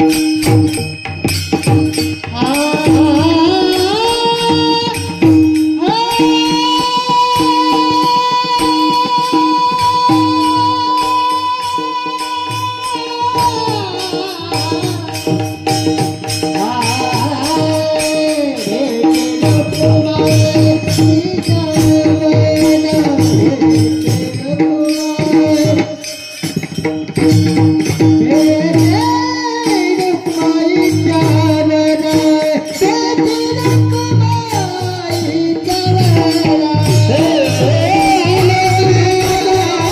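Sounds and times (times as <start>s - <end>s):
percussion beat: 0.0s - 39.9s
person singing: 2.3s - 26.3s, 27.3s - 39.9s.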